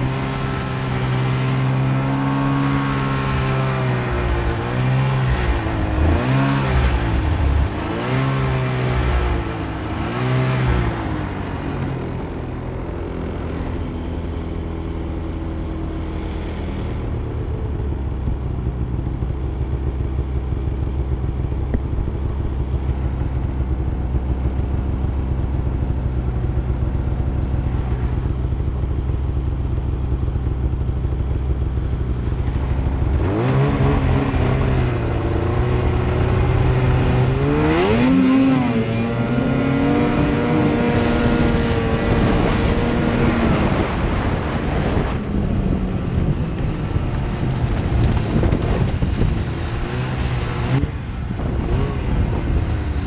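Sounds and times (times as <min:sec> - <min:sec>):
snowmobile engine idling and revving: 0:00.0 - 0:53.0.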